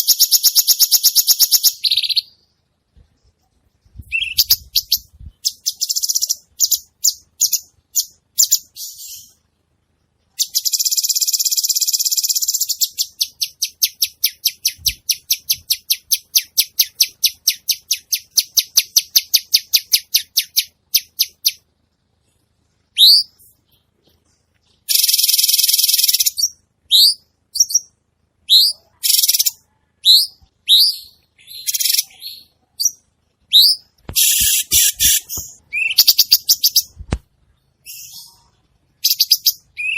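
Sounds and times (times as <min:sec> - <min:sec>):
bird singing: 0:00.0 - 0:02.6, 0:03.2 - 0:09.5, 0:10.3 - 0:37.0, 0:37.6 - 0:39.9.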